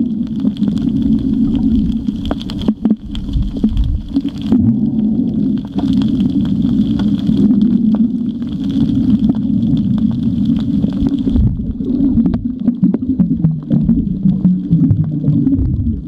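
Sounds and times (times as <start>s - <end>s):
underwater low rumble: 0.0s - 16.0s.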